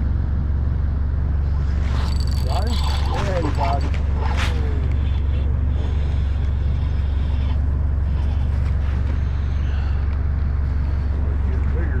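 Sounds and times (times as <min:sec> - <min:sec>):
boat motor humming: 0:00.8 - 0:12.0.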